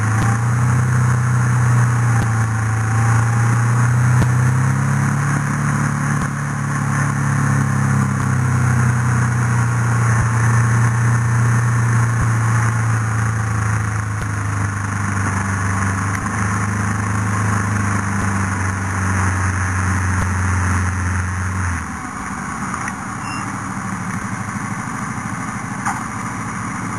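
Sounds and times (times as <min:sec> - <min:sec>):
tyres on gravel track: 0:00.0 - 0:26.9
vehicle engine running: 0:00.0 - 0:26.9.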